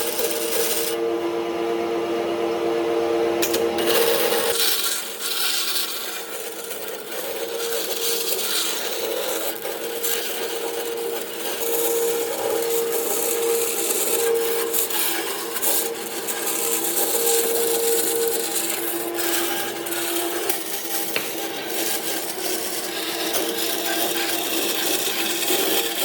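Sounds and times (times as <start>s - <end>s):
power tool sanding wood: 0.0s - 26.0s.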